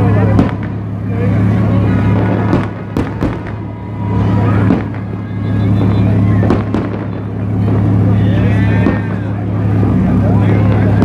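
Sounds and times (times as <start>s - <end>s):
fireworks bangs: 0.0s - 11.0s
steady low hum: 0.0s - 11.0s.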